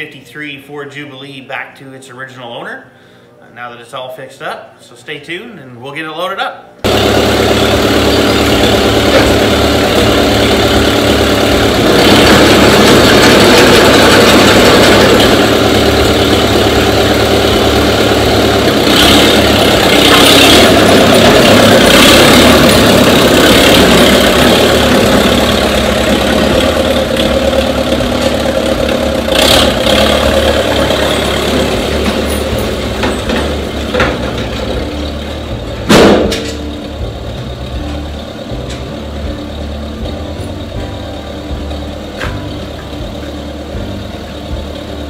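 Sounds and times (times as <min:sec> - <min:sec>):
tractor engine running: 0:06.8 - 0:45.0.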